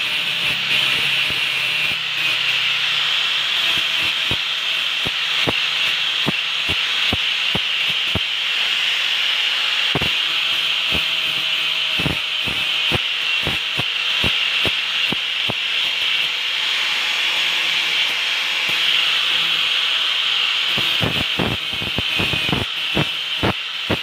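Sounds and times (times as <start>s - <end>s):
angle grinder on steel: 0.0s - 24.0s.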